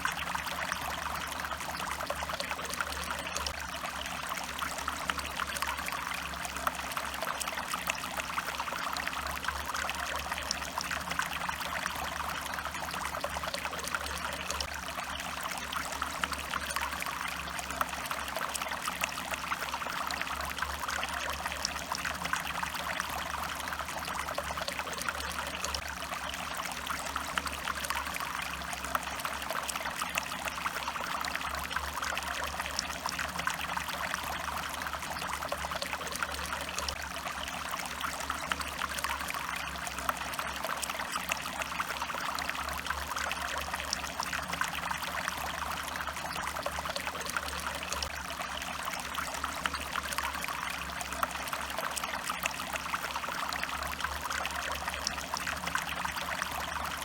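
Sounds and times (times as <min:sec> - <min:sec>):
stream water over rocks: 0:00.0 - 0:57.0.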